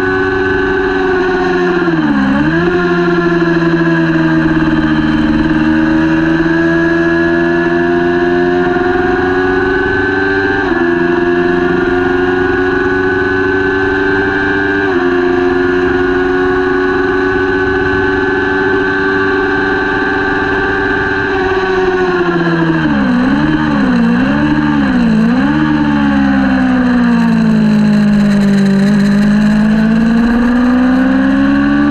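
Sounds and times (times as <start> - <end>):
motorcycle engine revving high: 0.0 - 31.9.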